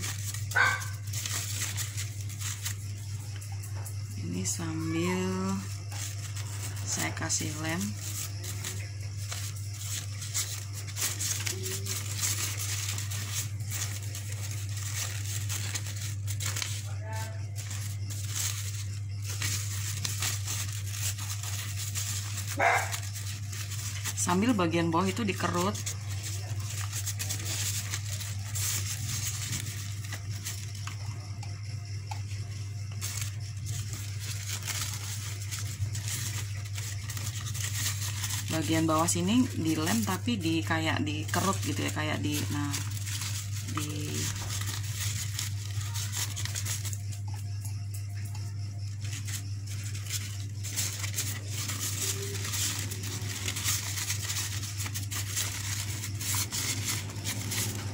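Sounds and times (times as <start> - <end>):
crepe paper rustling: 0.0 - 57.9
low electrical hum: 0.0 - 57.9.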